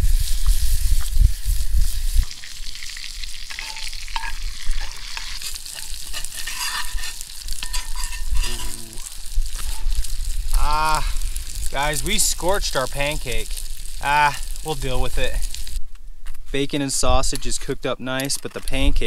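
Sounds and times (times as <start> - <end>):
food sizzling in a frying pan: 0.0 - 15.8.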